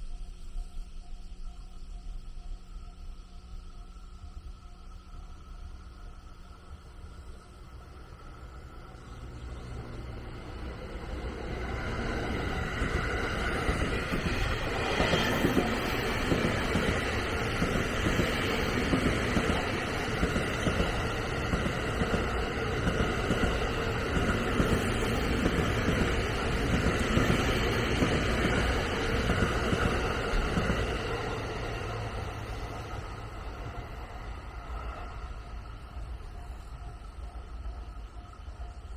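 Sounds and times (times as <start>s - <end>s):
train rumbling past on rails: 4.1s - 38.9s.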